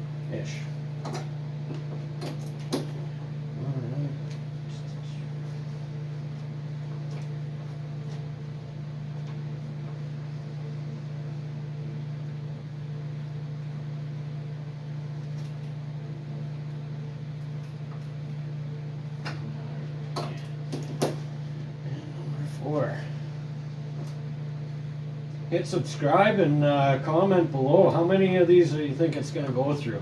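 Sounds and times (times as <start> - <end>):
low electric hum: 0.0 - 30.0.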